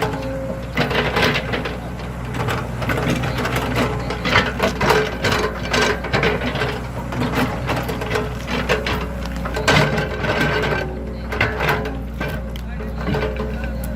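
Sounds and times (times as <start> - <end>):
excavator bucket clanking and scraping: 0.0 - 13.9
excavator engine humming: 0.0 - 13.9.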